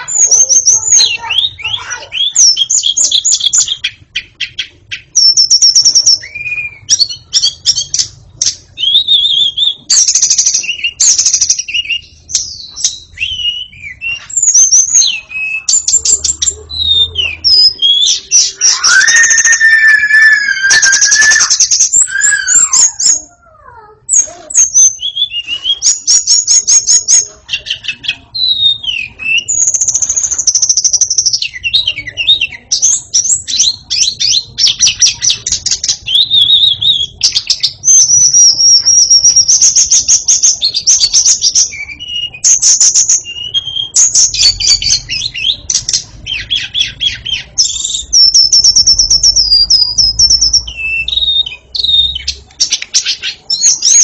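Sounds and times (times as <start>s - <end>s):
bird singing whistled phrases: 0.0s - 8.1s, 8.8s - 54.0s.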